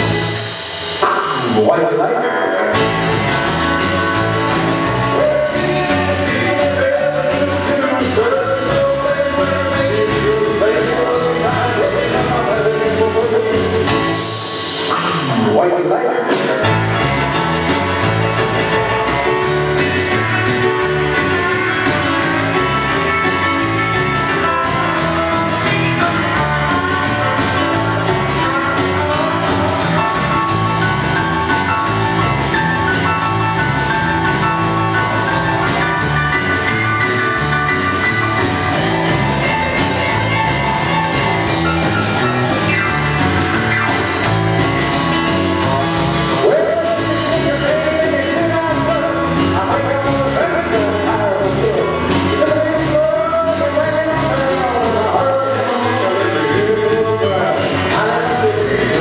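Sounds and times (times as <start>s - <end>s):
bass line and beat: 0.0s - 1.7s, 2.8s - 15.5s, 16.4s - 59.0s
electric guitar: 0.0s - 59.0s.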